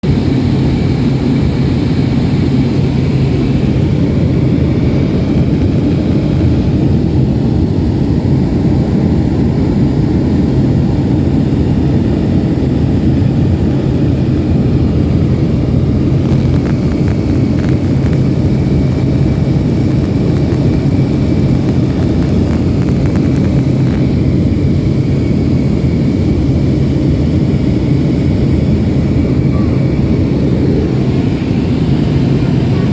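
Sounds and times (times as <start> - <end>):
airplane cabin engine drone: 0.0 - 32.9.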